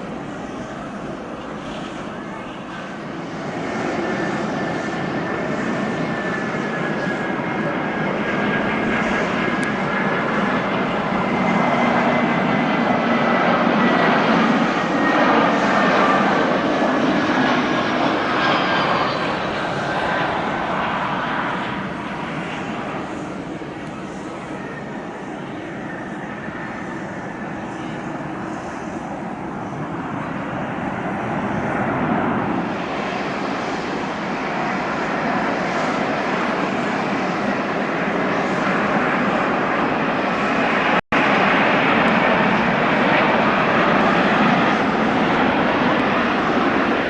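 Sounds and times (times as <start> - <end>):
jet airliner engines: 0.0 - 47.0
steady whistling whine: 0.0 - 47.0.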